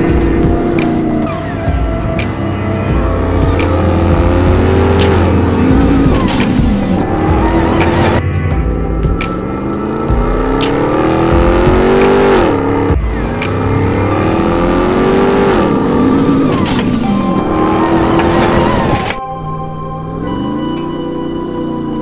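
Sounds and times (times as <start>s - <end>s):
truck engine accelerating hard: 0.0s - 22.0s.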